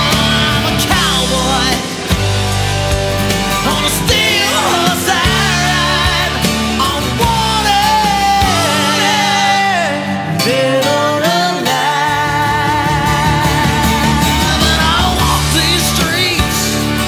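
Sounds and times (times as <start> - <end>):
rock song with singing: 0.0 - 17.0.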